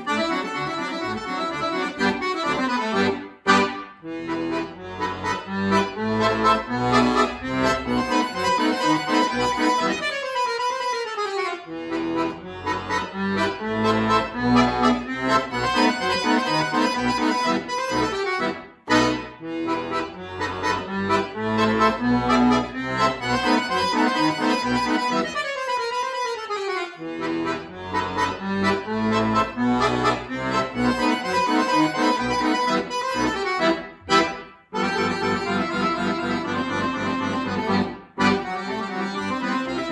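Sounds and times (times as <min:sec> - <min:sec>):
button accordion playing fast: 0:00.0 - 0:39.9.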